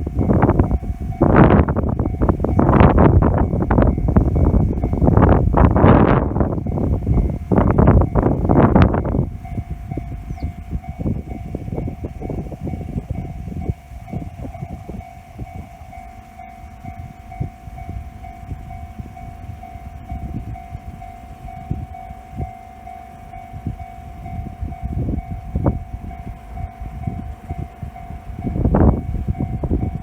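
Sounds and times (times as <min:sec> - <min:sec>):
train rumbling and clattering: 0:00.0 - 0:30.0.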